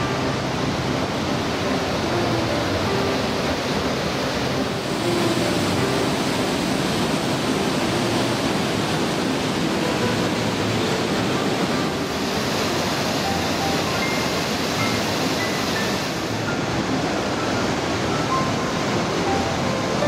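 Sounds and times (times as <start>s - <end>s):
whitewater river rushing: 0.0s - 20.0s.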